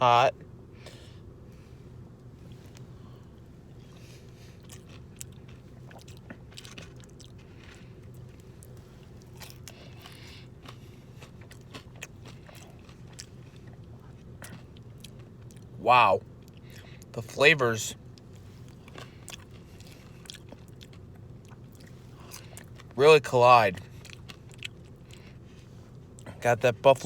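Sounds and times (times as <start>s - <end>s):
faint steady hum: 0.0s - 27.0s
person chewing food: 2.4s - 17.1s, 18.0s - 23.0s, 23.8s - 26.4s.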